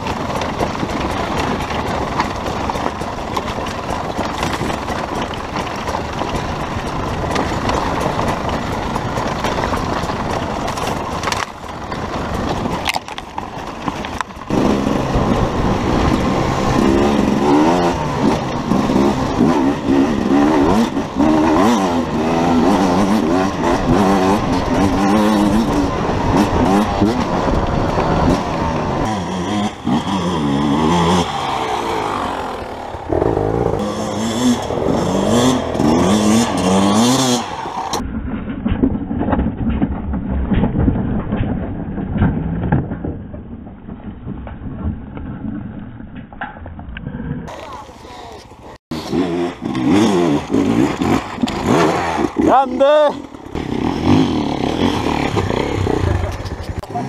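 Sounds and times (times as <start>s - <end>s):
motorcycle engines revving: 0.0s - 38.0s, 47.4s - 57.0s.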